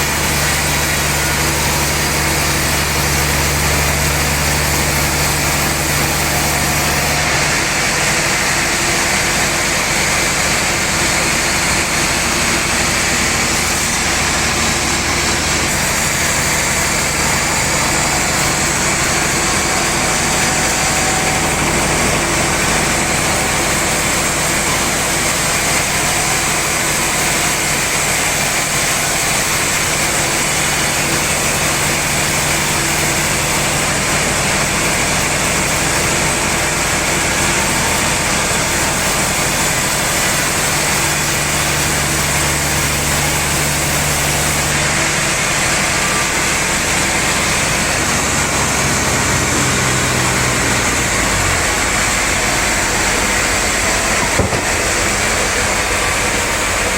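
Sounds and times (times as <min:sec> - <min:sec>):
motor hum: 0:00.0 - 0:56.9
sawmill machinery hiss: 0:00.0 - 0:56.9.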